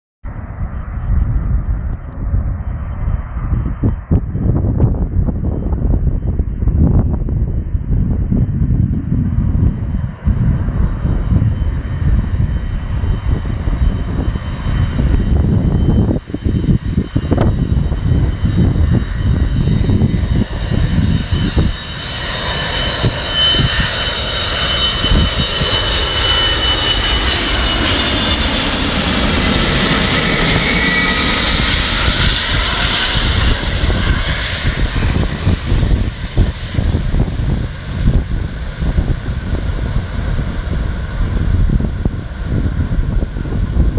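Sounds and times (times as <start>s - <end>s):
jet engines whining overhead: 0.3s - 43.9s.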